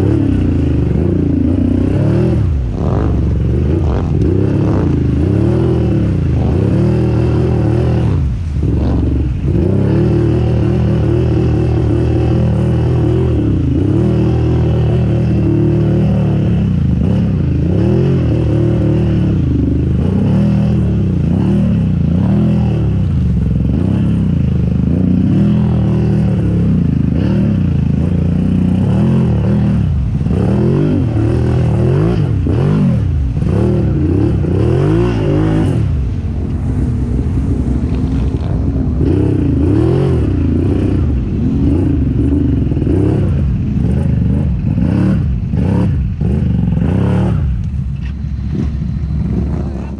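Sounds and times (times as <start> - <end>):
atv engine revving: 0.0 - 49.9
mud and water splashing: 0.0 - 49.9.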